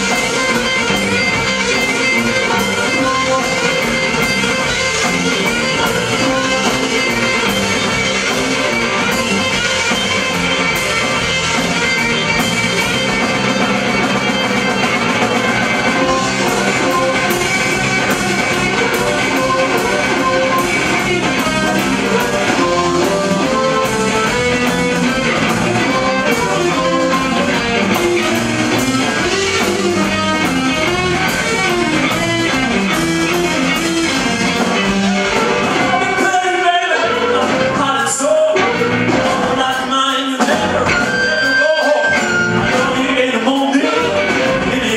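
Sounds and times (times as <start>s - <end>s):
drum kit: 0.0s - 44.9s
electric bass: 0.0s - 44.9s
electric guitar melody: 0.0s - 44.9s.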